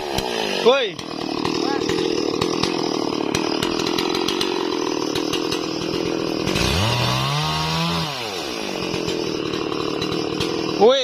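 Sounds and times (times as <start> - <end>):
chainsaw cutting a tree trunk: 0.0 - 11.0.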